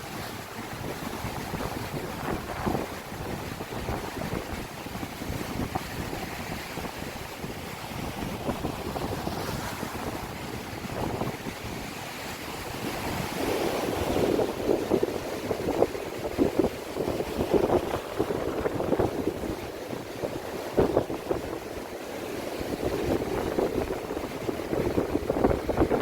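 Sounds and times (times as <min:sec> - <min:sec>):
sea waves washing on shore: 0:00.0 - 0:26.0
wind buffeting microphone: 0:00.0 - 0:26.0.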